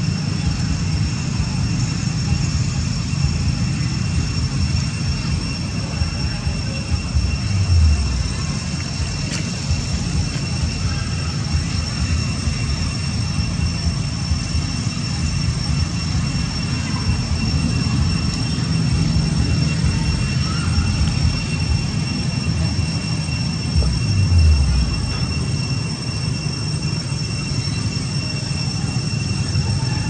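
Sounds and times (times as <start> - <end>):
high-pitched tone: 0.0 - 30.0.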